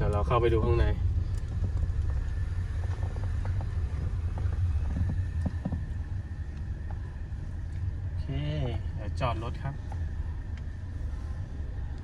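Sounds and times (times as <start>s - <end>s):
car driving slowly: 0.0s - 12.0s.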